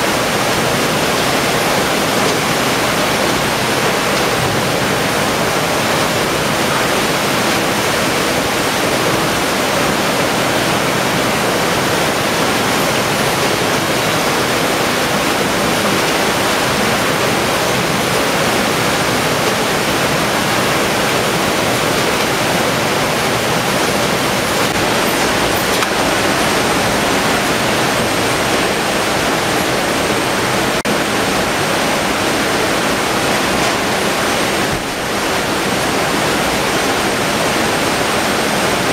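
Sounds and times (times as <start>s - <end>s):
processing line rushing din: 0.0s - 38.9s.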